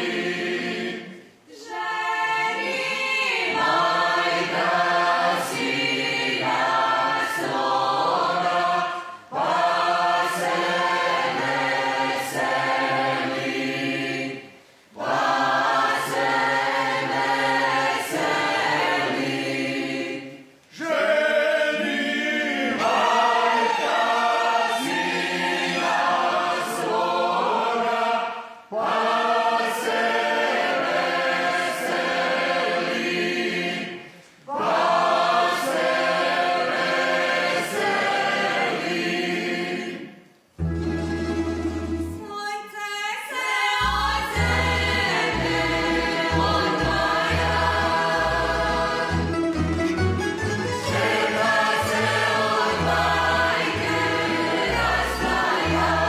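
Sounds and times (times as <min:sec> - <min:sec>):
group singing unaccompanied: 0:00.0 - 0:41.1, 0:43.2 - 0:49.7, 0:50.6 - 0:56.0.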